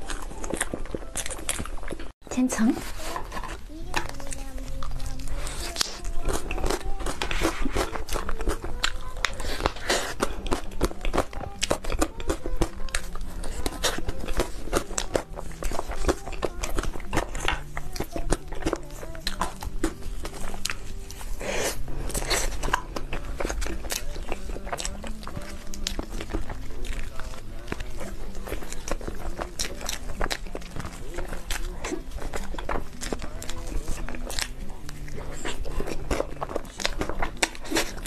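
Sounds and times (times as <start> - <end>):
biting and chewing: 0.0 - 38.0.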